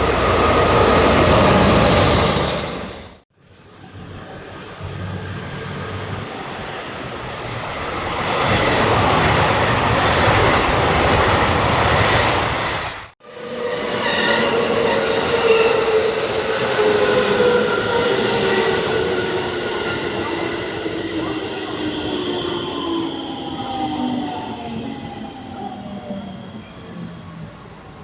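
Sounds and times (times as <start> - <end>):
train rumbling: 0.0 - 3.2, 3.8 - 28.0
high squealing train wheels: 0.0 - 10.6, 13.2 - 28.0.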